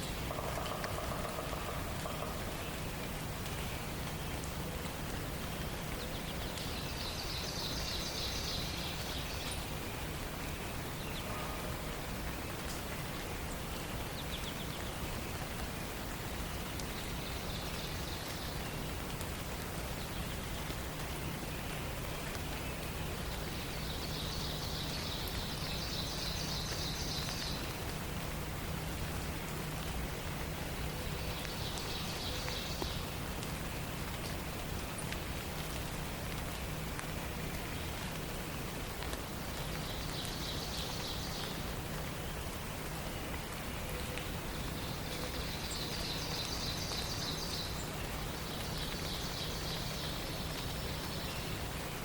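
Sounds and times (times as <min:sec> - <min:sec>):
steady forest hiss: 0:00.0 - 0:52.0.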